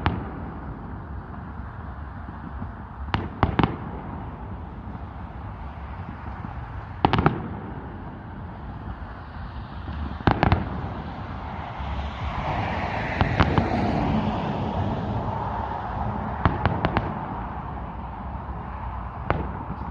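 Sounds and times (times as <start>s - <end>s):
fireworks bangs: 0.0s - 19.9s
steady noisy background: 0.0s - 19.9s.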